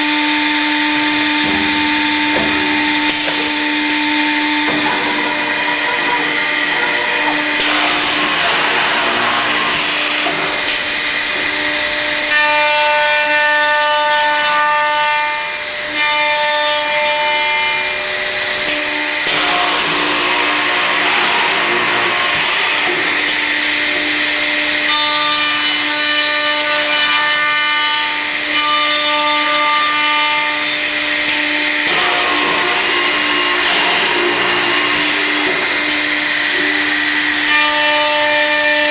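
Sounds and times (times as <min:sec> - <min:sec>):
machine spindles cutting wood: 0:00.0 - 0:38.9.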